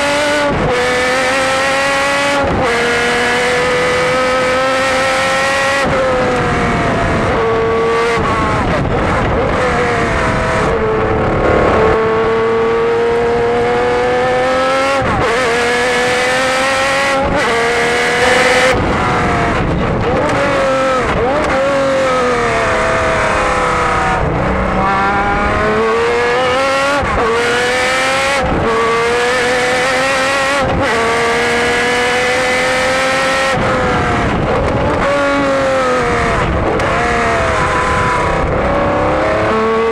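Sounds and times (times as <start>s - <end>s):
race car engine revving and shifting: 0.0s - 39.9s.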